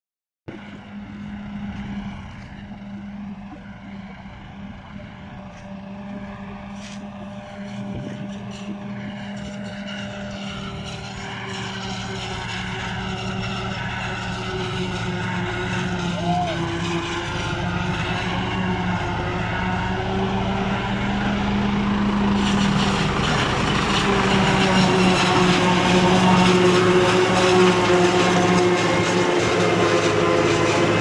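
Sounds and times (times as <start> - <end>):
forage harvester chopper whirring: 0.5 - 31.0
tractor engine under heavy load: 0.5 - 31.0.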